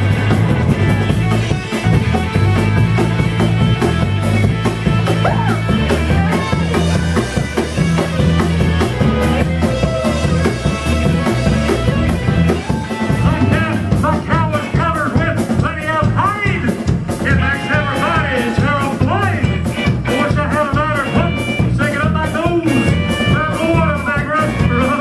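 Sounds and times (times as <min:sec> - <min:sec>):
bass guitar: 0:00.0 - 0:25.0
drum kit beat: 0:00.0 - 0:25.0
electric guitar: 0:00.0 - 0:25.0.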